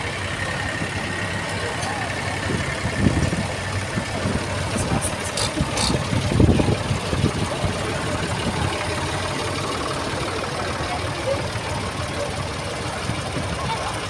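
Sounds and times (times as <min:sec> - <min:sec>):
tractor engines running: 0:00.0 - 0:14.0.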